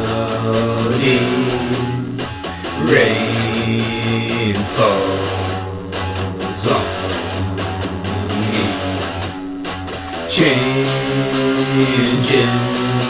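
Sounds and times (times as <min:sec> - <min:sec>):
guitar chords ringing: 0:00.0 - 0:13.0.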